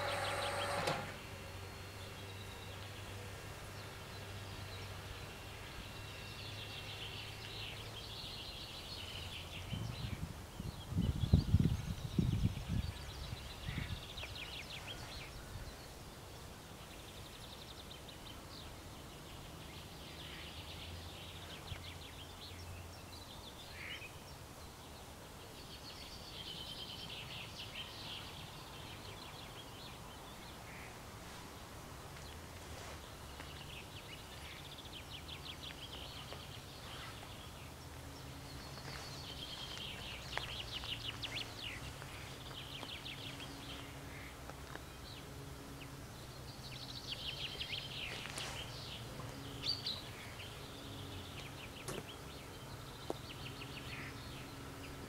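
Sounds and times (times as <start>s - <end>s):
songbirds trilling: 0.0s - 55.0s.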